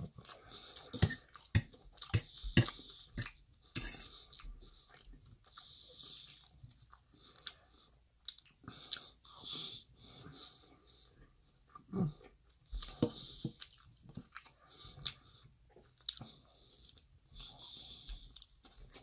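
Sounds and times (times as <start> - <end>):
chewing food: 0.0 - 3.4, 4.0 - 19.0.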